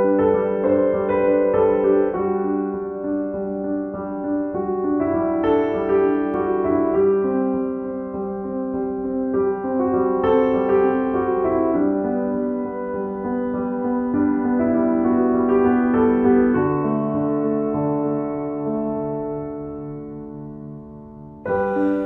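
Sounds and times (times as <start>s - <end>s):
slow solo piano piece: 0.0s - 22.0s.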